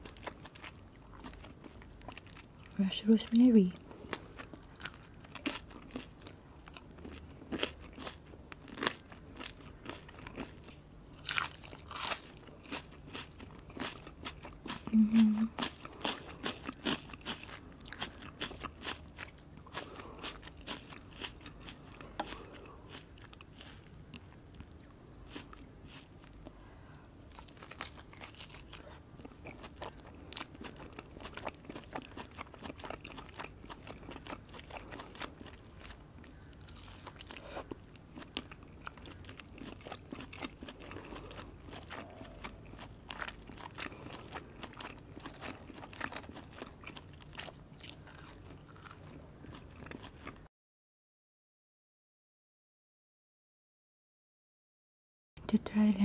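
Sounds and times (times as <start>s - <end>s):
crunching fried food: 0.0s - 2.8s, 3.8s - 50.5s.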